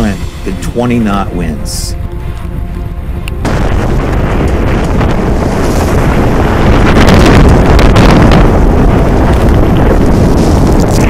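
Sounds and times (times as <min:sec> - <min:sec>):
rush of heavy seas: 0:00.0 - 0:11.0
storm wind buffeting microphone: 0:02.0 - 0:11.0.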